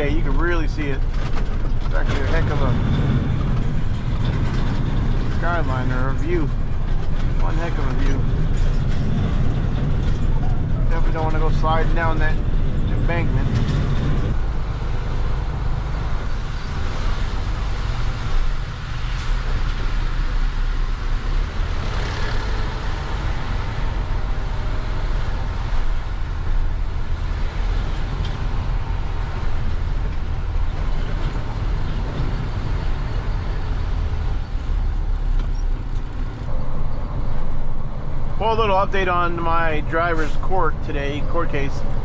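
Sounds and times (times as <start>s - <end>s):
truck engine and road noise: 0.0s - 42.0s.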